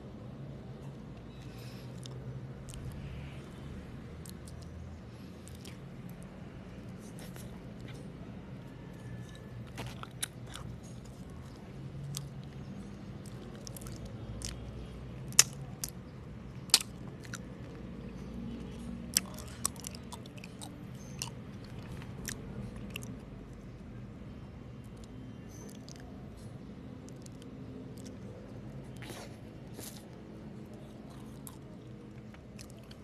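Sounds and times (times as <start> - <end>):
close chewing: 4.2 - 23.6, 24.9 - 33.0.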